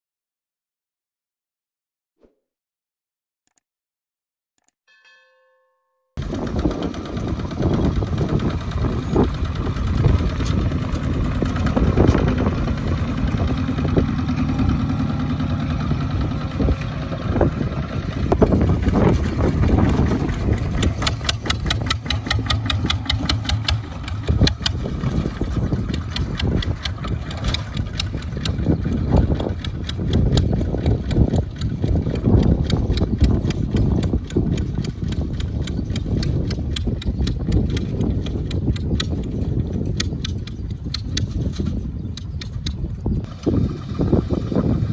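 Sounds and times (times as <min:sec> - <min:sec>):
diesel tractor engines chugging: 0:06.2 - 0:44.9.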